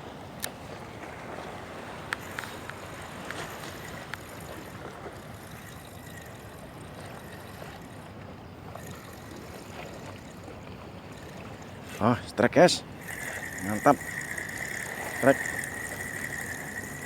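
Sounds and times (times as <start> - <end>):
sea waves: 0.0 - 17.0
wind: 0.0 - 17.0.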